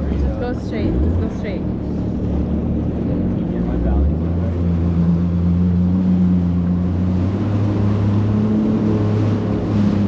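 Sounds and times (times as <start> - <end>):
small boat motor humming: 0.0 - 10.0
water: 0.0 - 10.0
wind: 0.0 - 10.0.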